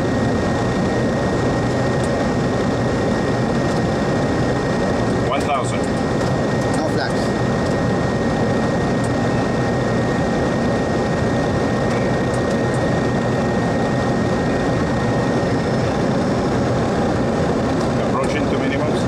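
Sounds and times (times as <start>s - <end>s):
jet engine and air rush: 0.0s - 19.0s
thin steady whine: 0.0s - 19.0s.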